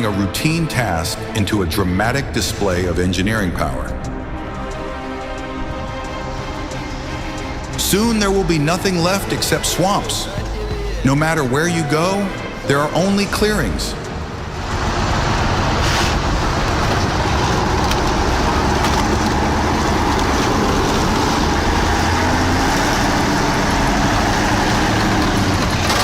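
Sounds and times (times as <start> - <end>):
heavy vehicle engine rumbling: 0.0 - 26.0.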